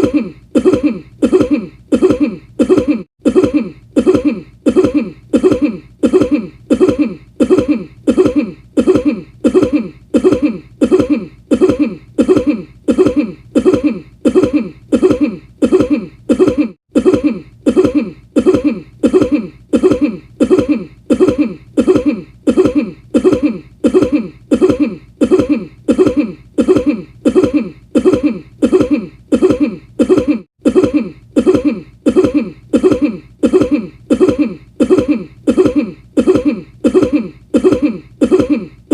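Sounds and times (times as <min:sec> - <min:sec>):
person coughing: 0:00.0 - 0:38.9.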